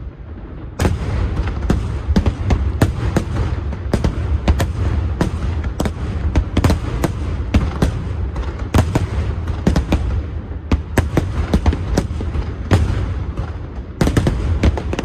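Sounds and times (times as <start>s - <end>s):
deep rumble of firework launches: 0.0s - 15.0s
firework bangs and cracks: 0.0s - 15.0s.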